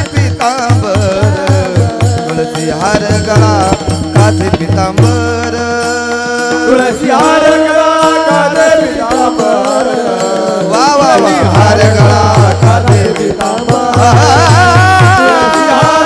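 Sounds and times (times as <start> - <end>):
devotional singing melody: 0.0 - 16.0.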